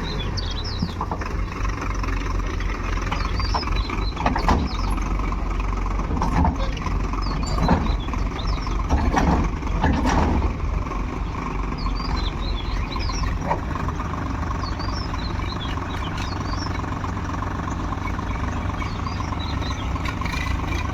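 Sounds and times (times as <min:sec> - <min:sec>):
small birds chirping: 0:00.0 - 0:05.5, 0:06.4 - 0:10.0, 0:10.8 - 0:20.9
heavy diesel engine running: 0:00.0 - 0:20.9.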